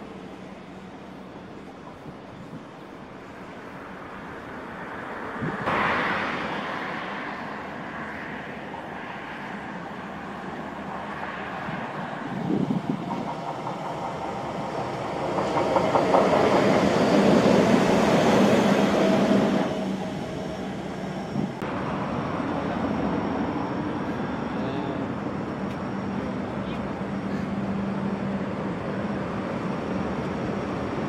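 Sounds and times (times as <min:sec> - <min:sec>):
tram passing on track: 0:00.0 - 0:31.0.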